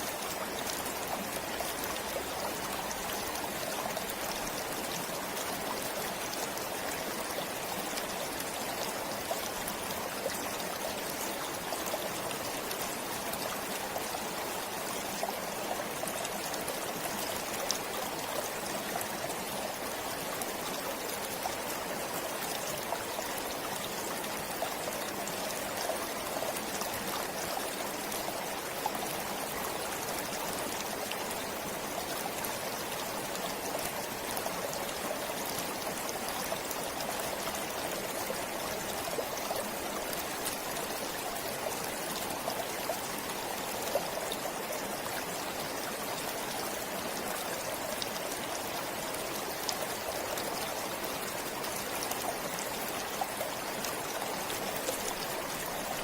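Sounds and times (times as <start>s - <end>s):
stream water trickling over stones: 0.0s - 56.0s.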